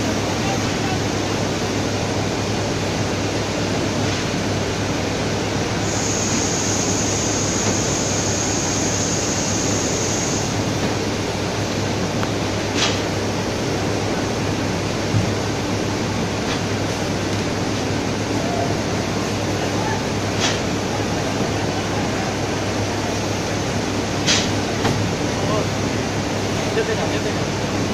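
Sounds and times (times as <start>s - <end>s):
conveyor machine humming: 0.0s - 27.9s
high steady whine: 0.0s - 27.9s.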